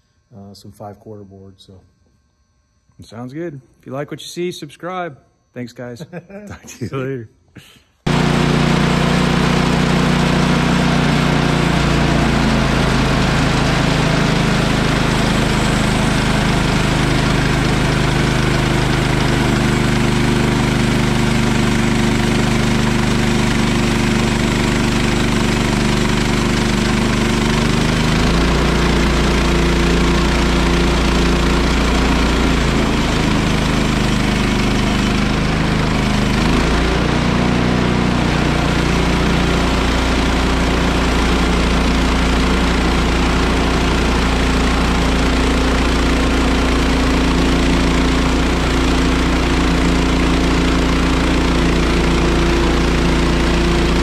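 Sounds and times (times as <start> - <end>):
sawmill engine running: 8.0 - 54.0.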